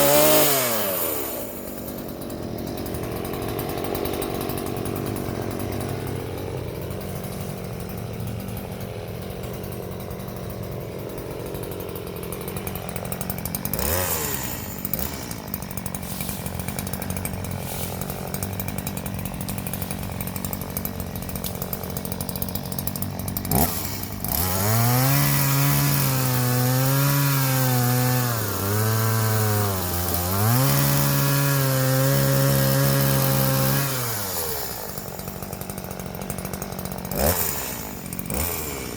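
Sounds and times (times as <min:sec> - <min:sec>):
chainsaw engine idling and revving: 0:00.0 - 0:38.9.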